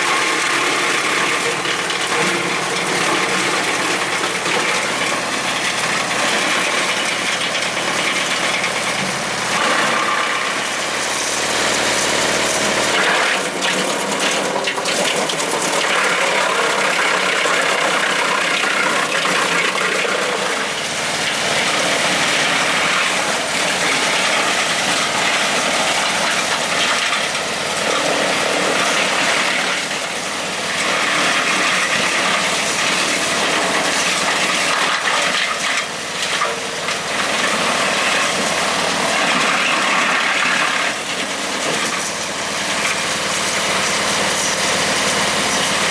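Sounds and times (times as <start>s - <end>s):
tractor running wood chipper: 0.0s - 45.9s.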